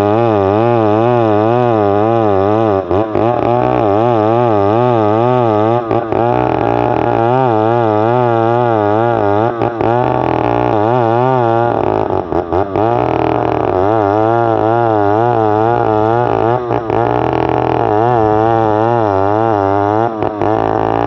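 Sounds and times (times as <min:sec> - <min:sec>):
chainsaw cutting log: 0:00.0 - 0:21.0.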